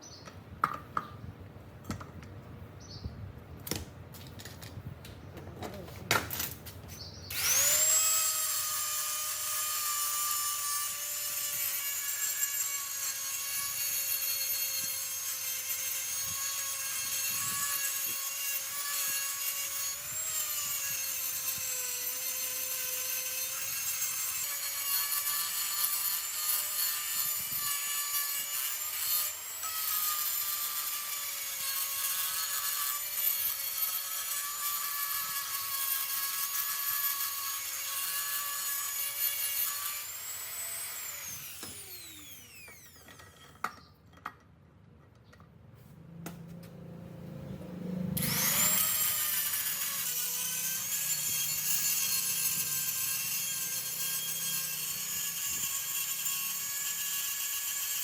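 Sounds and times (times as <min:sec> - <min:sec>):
high-speed electric power tool: 0:07.3 - 0:43.7, 0:47.7 - 0:58.0.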